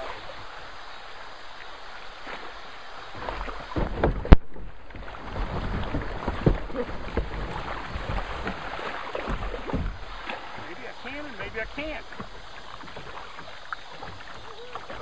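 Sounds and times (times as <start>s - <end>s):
river water rushing and splashing: 0.0s - 15.0s.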